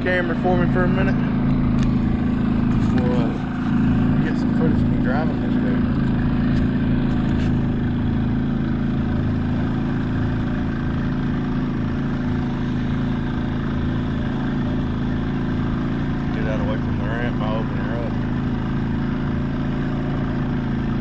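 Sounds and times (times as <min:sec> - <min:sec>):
outboard motor idling: 0:00.0 - 0:21.0.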